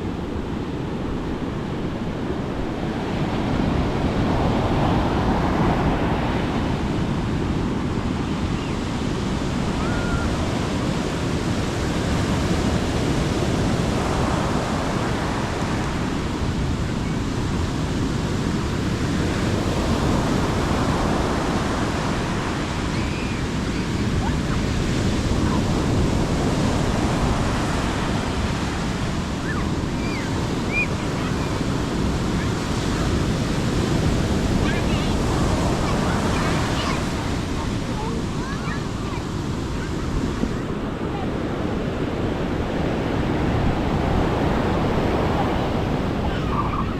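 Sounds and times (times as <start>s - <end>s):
sea waves breaking on beach: 0.0s - 46.9s
wind on microphone: 0.0s - 46.9s.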